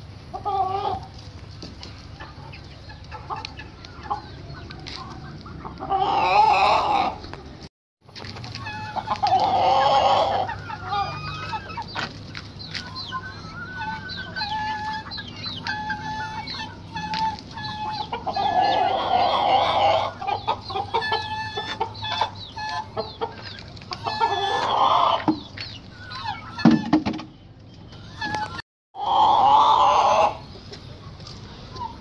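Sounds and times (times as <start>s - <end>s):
chickens clucking: 0.0s - 32.0s
chicken drawn-out calls: 0.1s - 32.0s.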